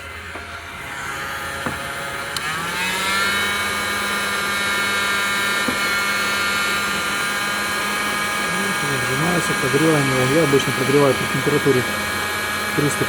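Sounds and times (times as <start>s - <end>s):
heat gun blower whine: 0.0s - 13.0s.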